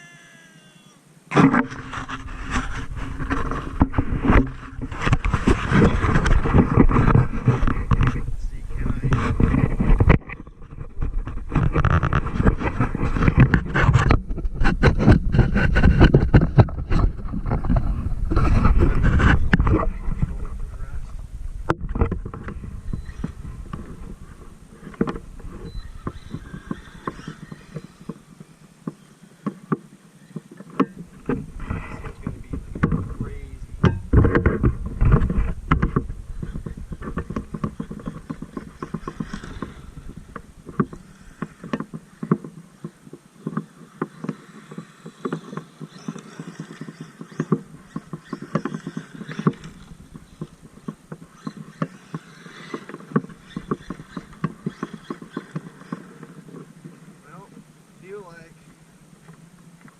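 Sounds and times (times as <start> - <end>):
rc truck clattering over rough ground: 1.3 - 28.1, 30.8 - 42.9, 43.6 - 56.9.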